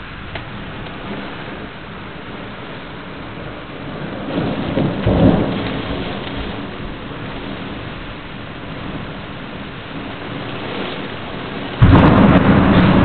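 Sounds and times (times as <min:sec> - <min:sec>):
heavy rain falling: 0:00.0 - 0:13.0
loud low thunder rumble: 0:00.0 - 0:13.0.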